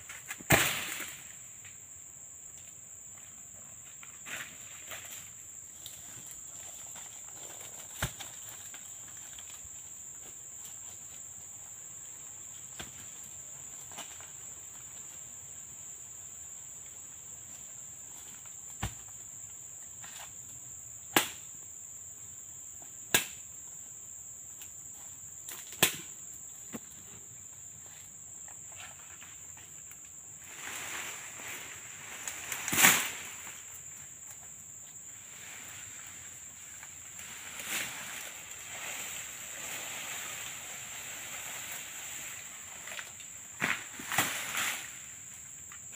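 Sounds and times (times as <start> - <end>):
high drone of insects: 0.0 - 45.9.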